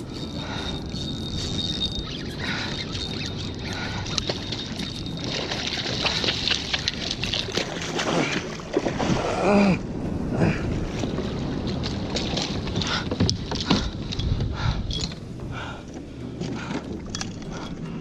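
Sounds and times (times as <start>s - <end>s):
water sloshing against hull: 0.0s - 18.0s.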